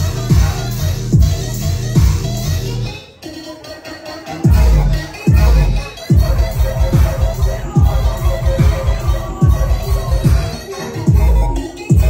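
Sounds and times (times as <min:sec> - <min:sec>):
dubstep over club sound system: 0:00.0 - 0:12.0.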